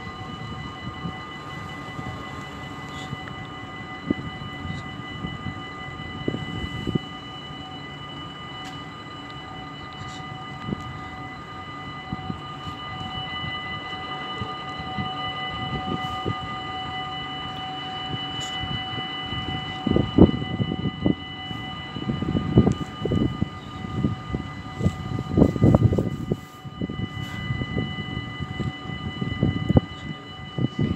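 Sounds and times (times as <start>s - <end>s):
railway crossing bells ringing: 0.0s - 30.9s.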